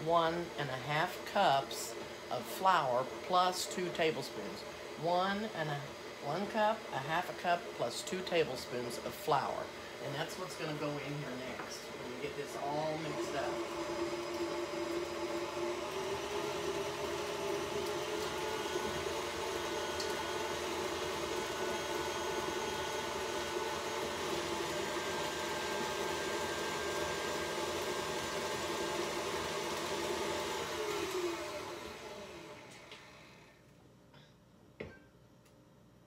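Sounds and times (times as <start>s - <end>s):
stand mixer motor whirring: 0.0s - 33.5s
mixer motor winding down: 0.0s - 33.6s.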